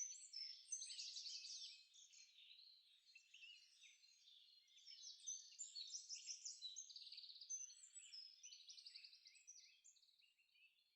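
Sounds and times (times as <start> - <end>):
small birds chirping and singing: 0.0 - 10.9.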